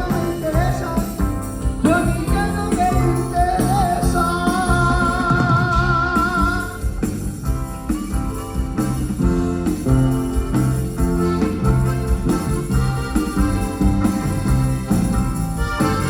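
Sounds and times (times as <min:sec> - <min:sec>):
live band playing latin music: 0:00.0 - 0:16.0.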